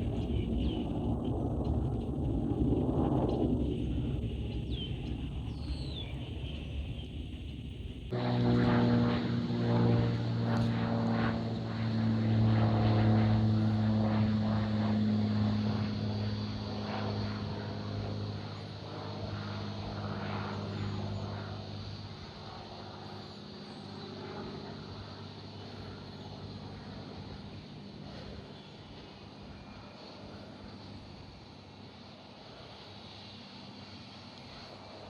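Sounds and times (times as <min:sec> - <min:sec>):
propeller aircraft drone: 0:00.0 - 0:35.0.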